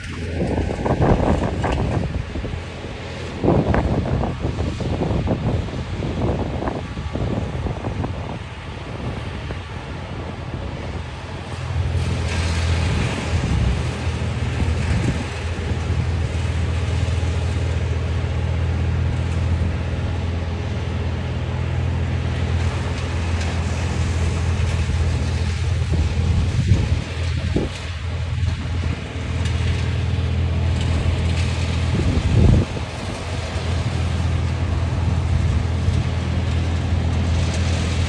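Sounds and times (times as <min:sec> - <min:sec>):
heavy diesel engine droning: 0:00.0 - 0:38.0
wind noise on microphone: 0:00.0 - 0:38.0.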